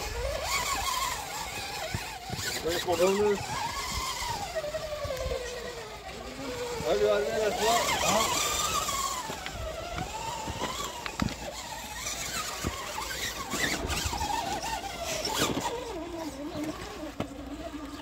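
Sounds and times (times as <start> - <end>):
toy car motor whining: 0.0 - 18.0.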